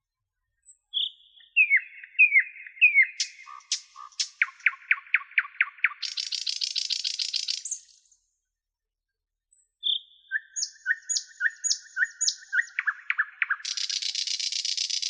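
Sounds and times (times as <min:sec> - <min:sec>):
nightingale singing: 0:00.6 - 0:08.2, 0:09.8 - 0:15.0.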